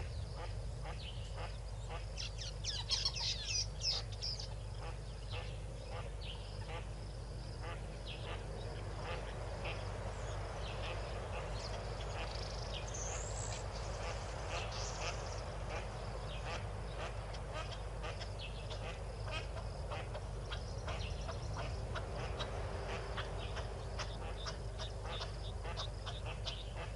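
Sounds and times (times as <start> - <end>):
duck and ducklings calling: 0.0 - 26.9
steady low hum: 0.0 - 26.9.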